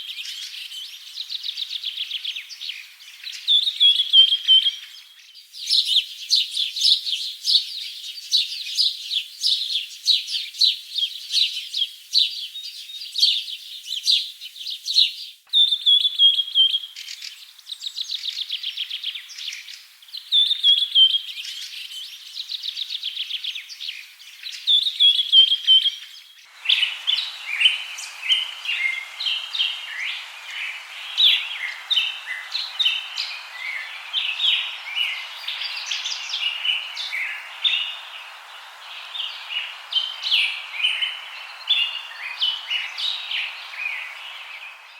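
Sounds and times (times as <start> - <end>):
songbirds chirping and trilling: 0.0 - 44.9
steady background hiss: 0.0 - 44.9.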